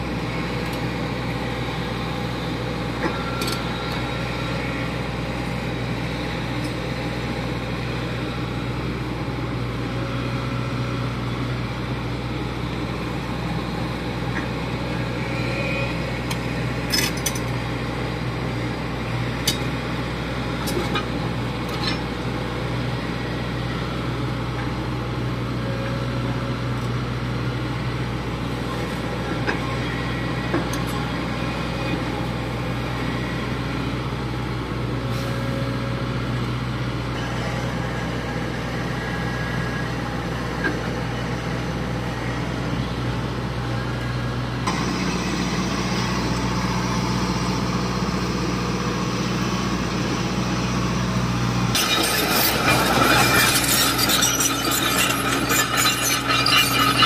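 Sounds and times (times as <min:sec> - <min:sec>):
excavator engine hum: 0:00.0 - 0:57.0.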